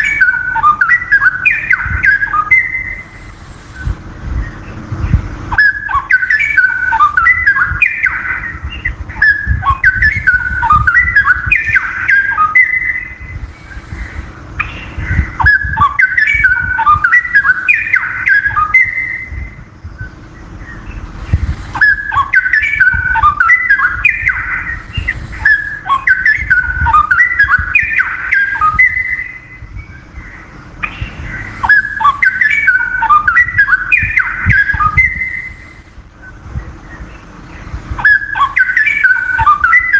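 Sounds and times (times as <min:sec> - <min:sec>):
bird singing bubbling warbles: 0:00.0 - 0:03.2, 0:03.8 - 0:39.9
faint steady hum: 0:00.0 - 0:39.9.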